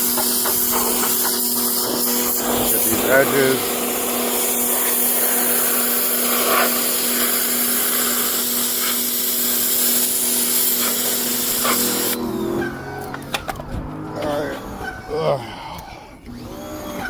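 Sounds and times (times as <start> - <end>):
pressure washer jet hissing: 0.0 - 13.7
pump humming: 0.0 - 17.0.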